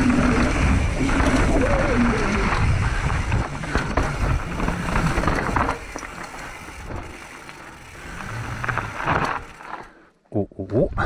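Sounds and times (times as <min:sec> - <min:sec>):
bike rattling and clicking: 0:00.0 - 0:10.2
bike tyres on rough ground: 0:00.0 - 0:10.2.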